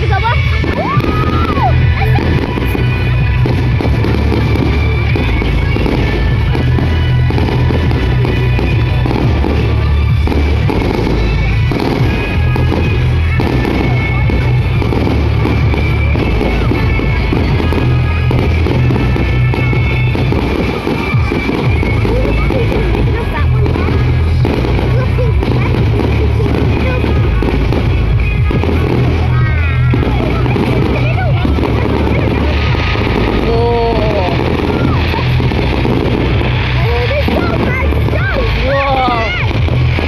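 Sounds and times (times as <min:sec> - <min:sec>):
fireworks bangs and crackling: 0:00.0 - 0:40.0
loud music with heavy bass: 0:00.0 - 0:40.0.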